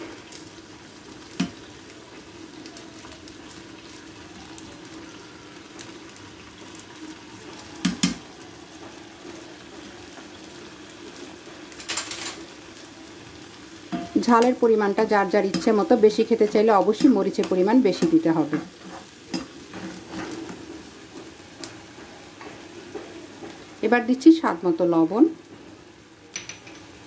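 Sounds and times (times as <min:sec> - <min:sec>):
paste sizzling in oil: 0:00.0 - 0:11.8, 0:12.4 - 0:26.2.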